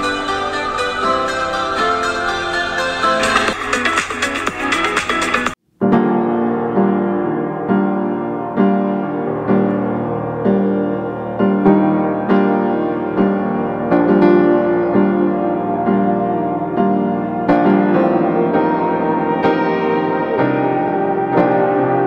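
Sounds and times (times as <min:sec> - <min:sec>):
gentle piano chords: 0:00.0 - 0:03.9, 0:05.8 - 0:22.0.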